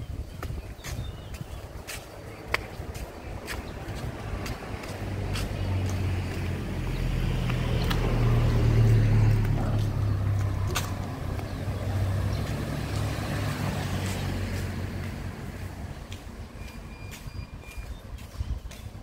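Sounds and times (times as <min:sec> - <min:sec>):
vehicle engine humming: 0:01.6 - 0:19.0.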